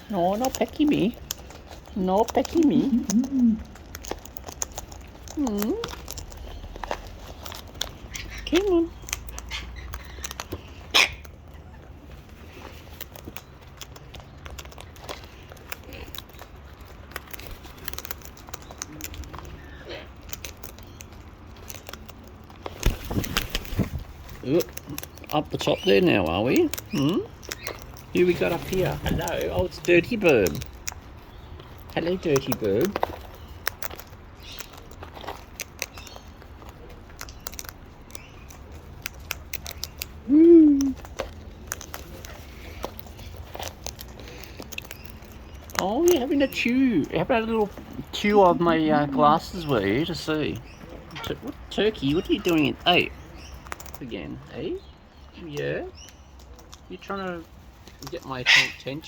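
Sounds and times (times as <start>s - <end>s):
parrots cracking seed: 0.0s - 48.5s, 49.6s - 54.1s, 55.2s - 59.0s.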